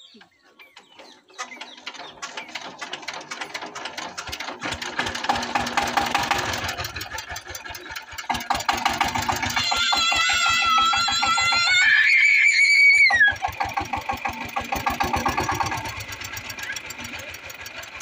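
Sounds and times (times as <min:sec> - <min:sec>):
diesel engine running: 0:01.4 - 0:18.0.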